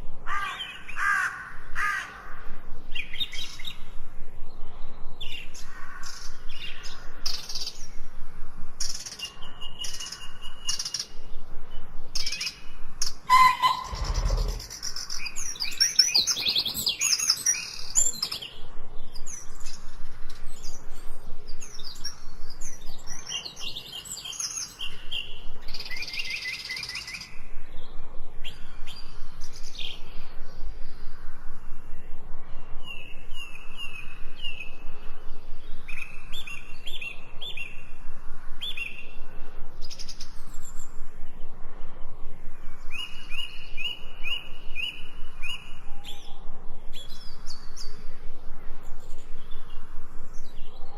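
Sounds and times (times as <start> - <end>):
birds chirping and trilling: 0.0 - 50.9.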